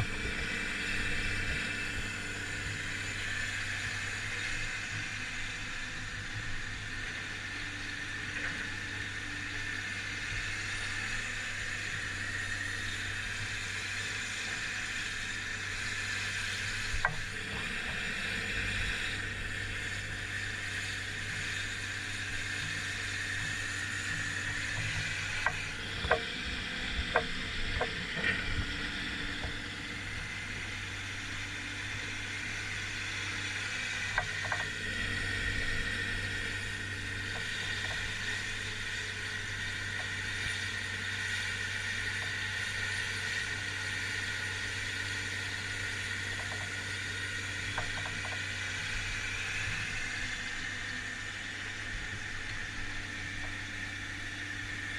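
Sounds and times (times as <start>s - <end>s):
excavator engine running: 0.0s - 54.9s
high hydraulic whine: 0.0s - 54.9s.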